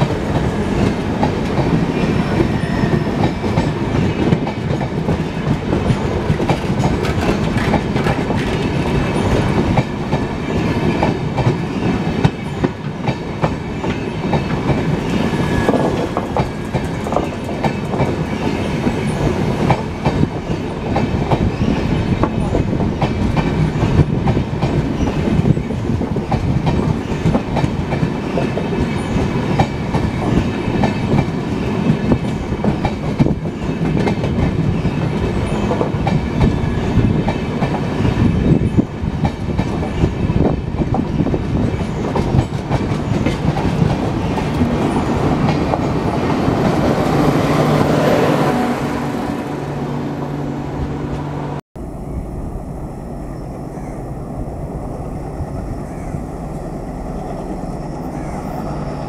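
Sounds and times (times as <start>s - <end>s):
wheels clattering on rails: 0.0s - 48.3s
train coaches rumbling past: 0.0s - 59.0s.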